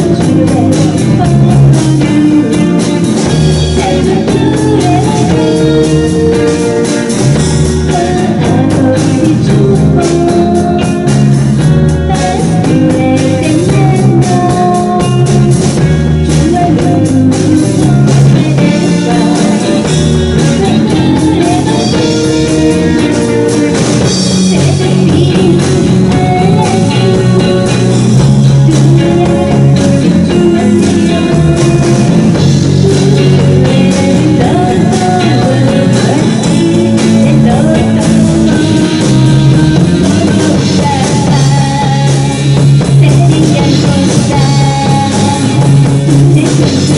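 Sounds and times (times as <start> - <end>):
drum kit: 0.0 - 46.9
electric guitars: 0.0 - 46.9
woman singing: 0.0 - 46.9.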